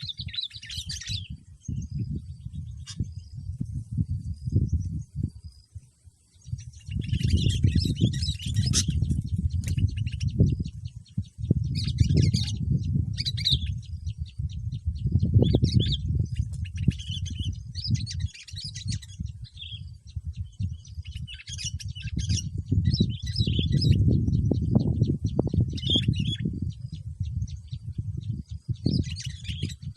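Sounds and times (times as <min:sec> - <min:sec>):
birds chirping: 0:00.0 - 0:29.9
wind buffeting microphone: 0:00.0 - 0:29.9.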